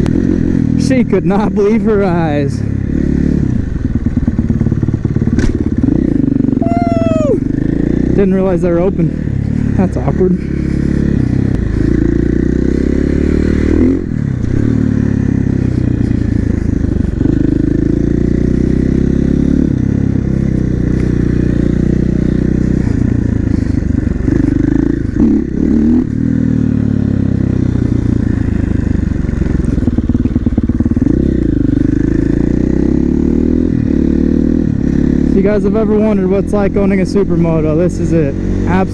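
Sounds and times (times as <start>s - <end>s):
motorcycle engine revving through gears: 0.0s - 38.9s.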